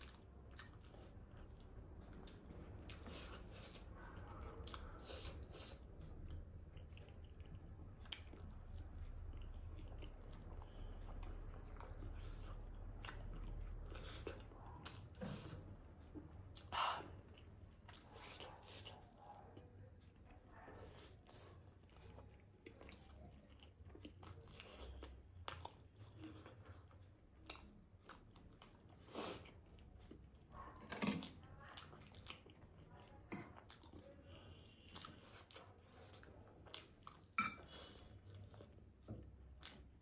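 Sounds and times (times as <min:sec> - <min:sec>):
person chewing: 0:00.0 - 0:20.1, 0:20.8 - 0:40.0.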